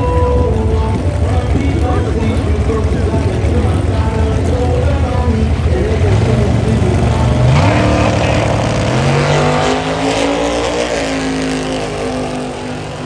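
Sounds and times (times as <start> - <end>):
drag racing car accelerating: 0.0 - 13.0.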